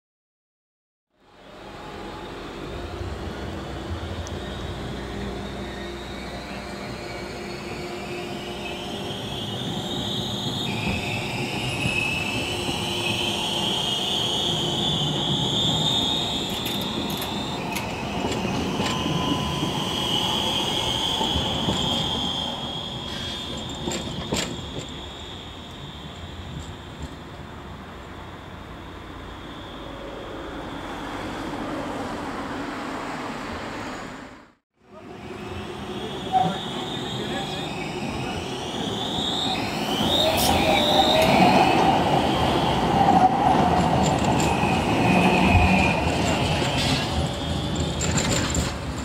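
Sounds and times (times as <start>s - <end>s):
tram motor whine: 1.2s - 32.4s, 34.9s - 49.0s
wheels rumbling on rail: 1.4s - 49.0s.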